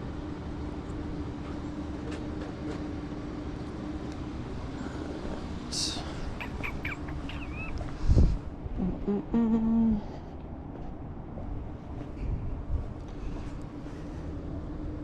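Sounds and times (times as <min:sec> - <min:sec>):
vehicle running hum: 0:00.0 - 0:15.0.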